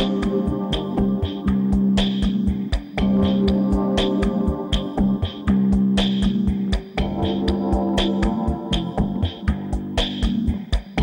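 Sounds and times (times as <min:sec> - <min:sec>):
music with low thumping beat: 0:00.0 - 0:11.0.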